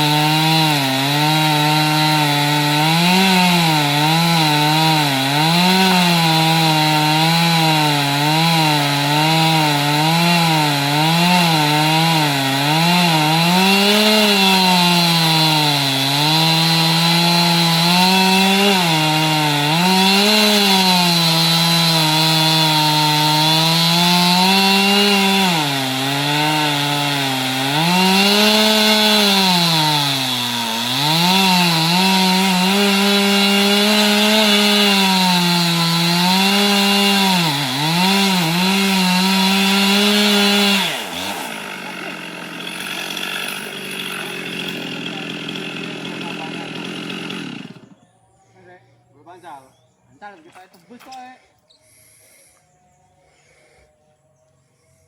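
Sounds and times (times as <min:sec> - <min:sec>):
chainsaw cutting wood: 0:00.0 - 0:48.1, 0:50.4 - 0:52.4.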